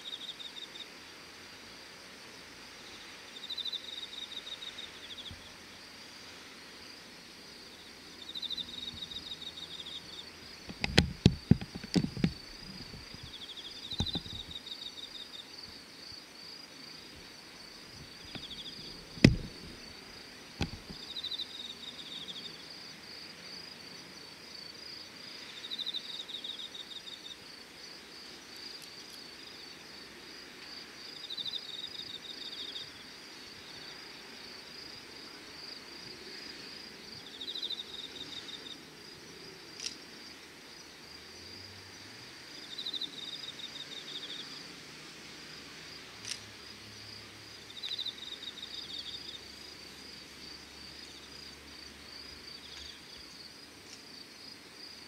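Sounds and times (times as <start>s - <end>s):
insects chirping: 0.0s - 55.0s
steady high insect trill: 0.0s - 55.0s.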